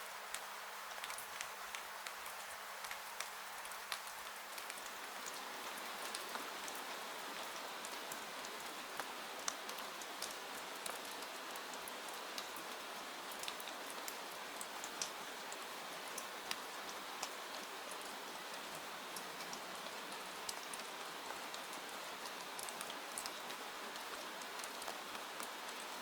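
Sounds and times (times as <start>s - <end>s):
rain hiss: 0.0s - 26.0s
raindrops ticking close by: 0.0s - 26.0s.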